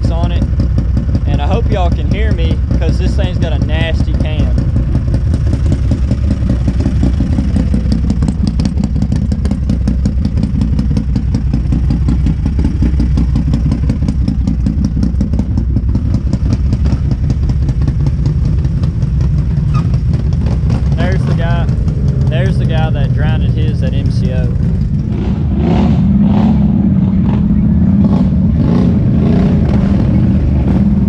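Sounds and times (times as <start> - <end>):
atv engine idling: 0.0 - 25.6, 26.2 - 31.0.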